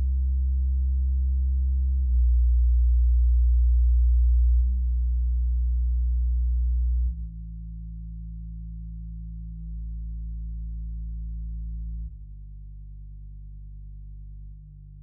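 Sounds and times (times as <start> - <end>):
low bass test tones: 0.0 - 15.0.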